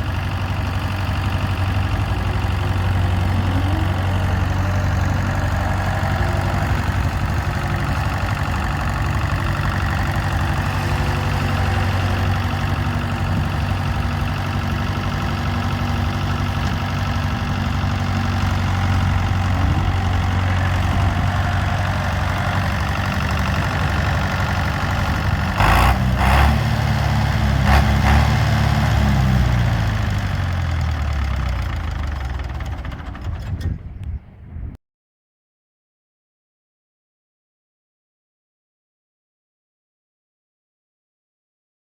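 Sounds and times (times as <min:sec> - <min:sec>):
diesel tractor engine idling: 0:00.0 - 0:34.7.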